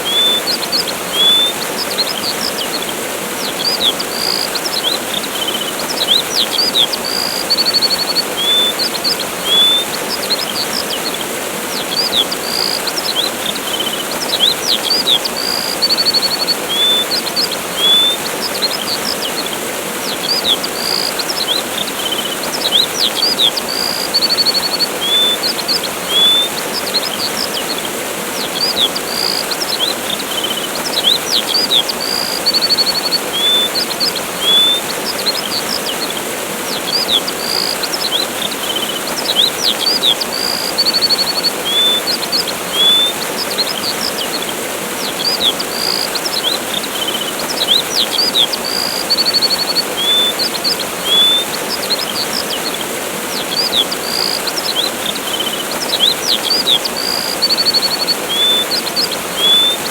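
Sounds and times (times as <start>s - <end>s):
small birds chirping and trilling: 0.0s - 59.9s
waterfall rushing: 0.0s - 59.9s.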